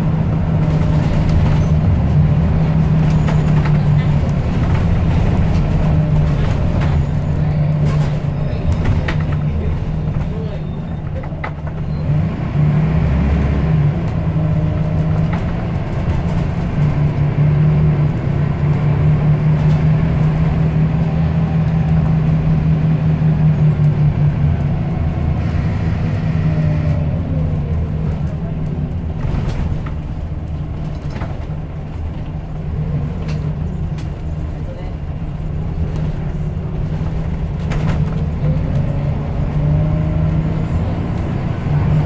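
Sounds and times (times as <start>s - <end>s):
bus diesel engine running: 0.0s - 42.0s.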